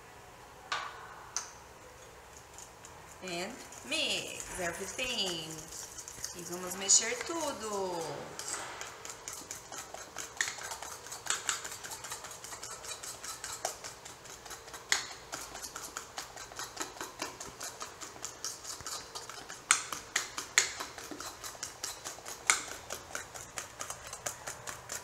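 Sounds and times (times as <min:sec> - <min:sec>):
utensil stirring batter in bowl: 0:01.8 - 0:25.0.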